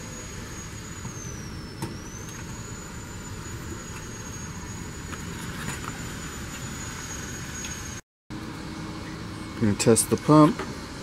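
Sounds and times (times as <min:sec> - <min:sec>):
machinery whining: 0:00.0 - 0:11.0.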